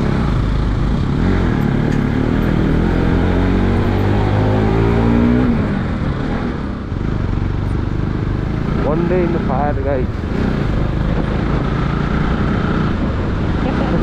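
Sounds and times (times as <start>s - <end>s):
road noise rumble: 0.0s - 14.0s.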